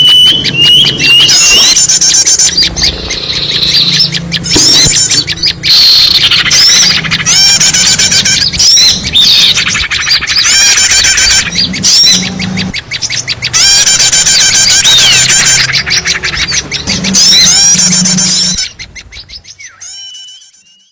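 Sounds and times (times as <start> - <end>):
many small birds chattering: 0.0 - 20.9.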